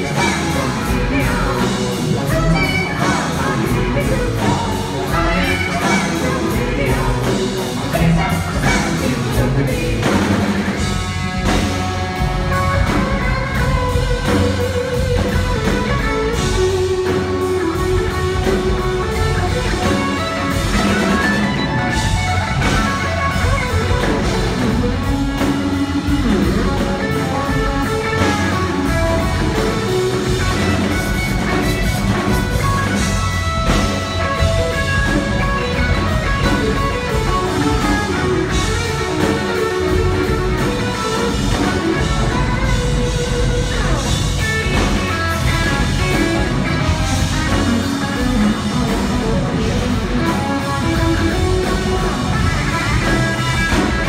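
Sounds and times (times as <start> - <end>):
bass guitar: 0.0 - 54.0
drum kit: 0.0 - 54.0
electric guitar bending notes: 0.0 - 54.0.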